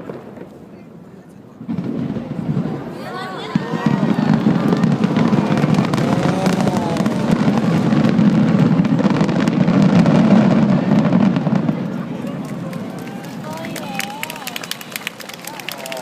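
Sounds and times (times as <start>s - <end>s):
fireworks bursting: 0.0s - 16.0s
fireworks crackling: 0.0s - 16.0s.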